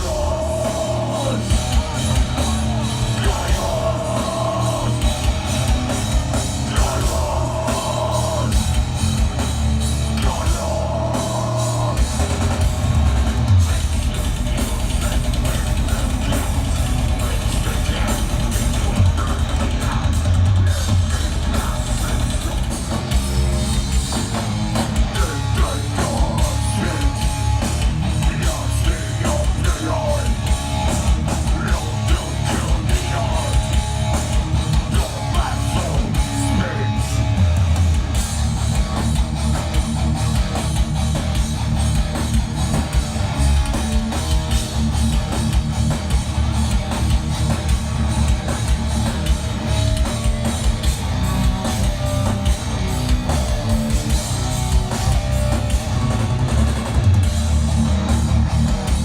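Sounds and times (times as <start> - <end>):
heavy rock band playing: 0.0 - 59.0.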